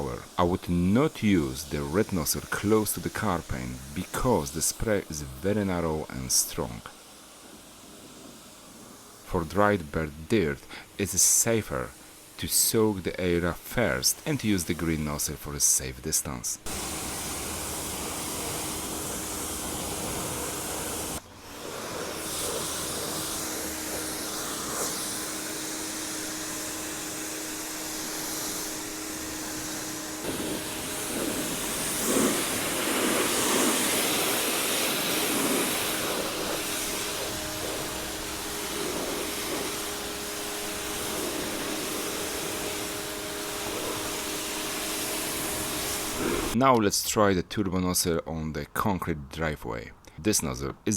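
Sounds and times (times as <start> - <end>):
pressure washer motor: 0.0 - 9.4, 11.2 - 13.0, 16.6 - 46.6
water jet hissing: 0.0 - 46.6.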